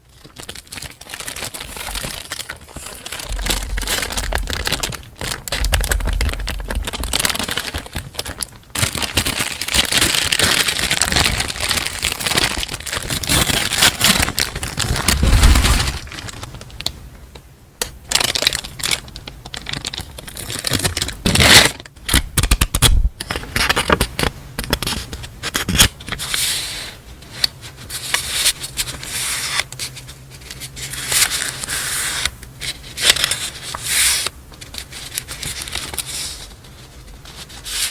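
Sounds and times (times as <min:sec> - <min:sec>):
paper crinkling and tearing: 0:00.2 - 0:16.9, 0:18.1 - 0:22.7, 0:27.6 - 0:37.9.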